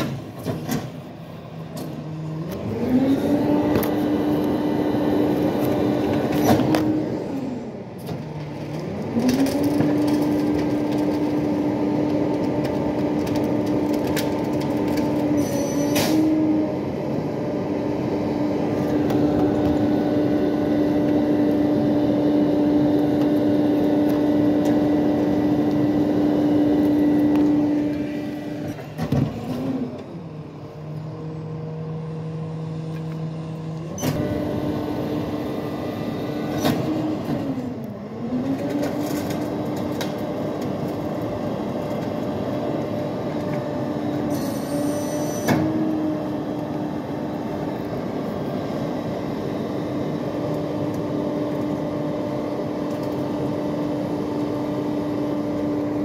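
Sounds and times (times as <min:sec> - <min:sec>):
garbage truck engine humming: 0:00.0 - 0:56.0.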